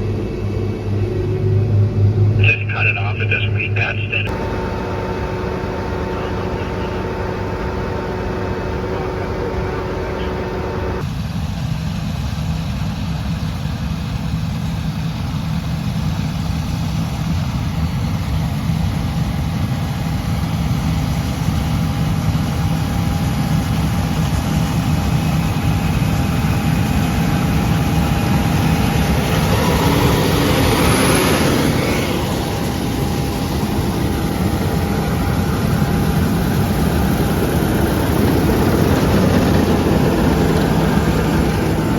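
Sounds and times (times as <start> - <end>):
tractor diesel engine drone: 0.0 - 41.9.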